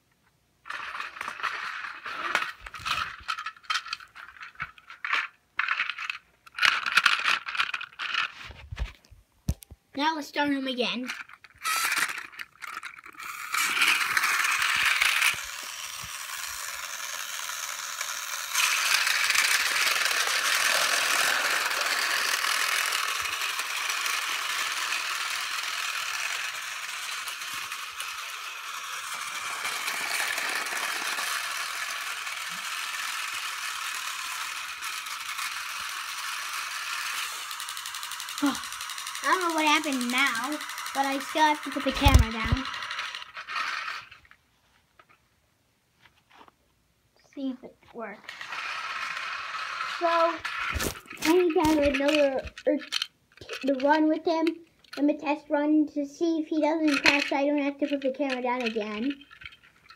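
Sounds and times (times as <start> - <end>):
toy trains whirring rattle: 0.6 - 9.0, 10.0 - 44.4, 47.3 - 59.9.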